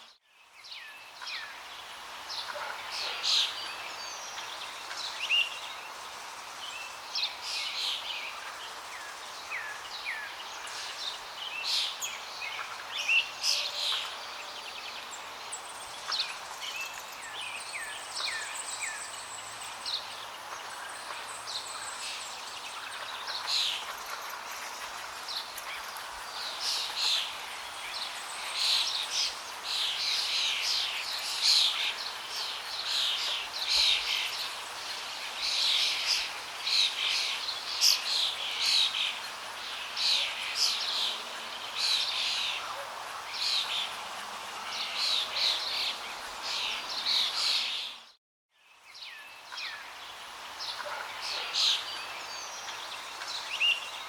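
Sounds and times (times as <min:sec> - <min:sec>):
songbirds chirping and calling: 0:00.0 - 0:54.0.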